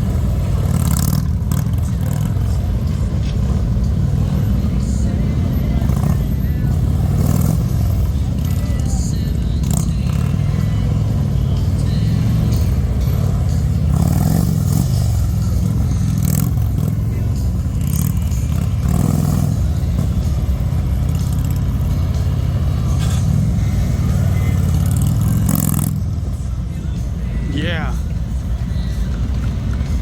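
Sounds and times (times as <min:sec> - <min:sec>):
motorcycle engines rumbling: 0:00.0 - 0:30.0.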